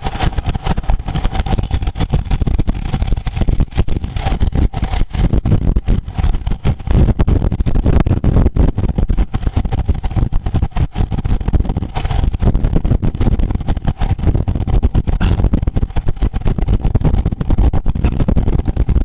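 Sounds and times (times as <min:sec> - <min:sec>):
road and tyre noise: 0:00.0 - 0:19.0
wind buffeting microphone: 0:00.0 - 0:19.0.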